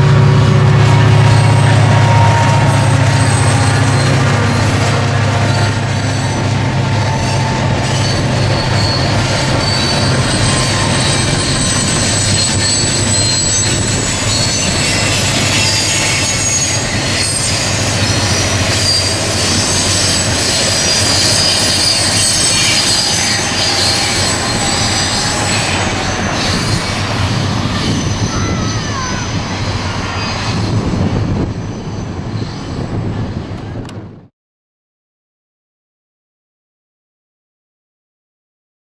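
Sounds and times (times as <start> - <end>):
freight train wheel and rail noise: 0.0 - 34.3
high squealing wheels: 0.3 - 33.8.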